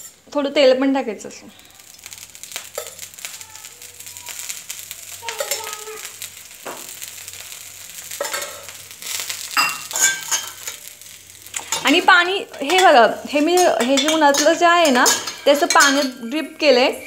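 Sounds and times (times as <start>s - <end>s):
batter sizzling on griddle: 0.0s - 17.0s.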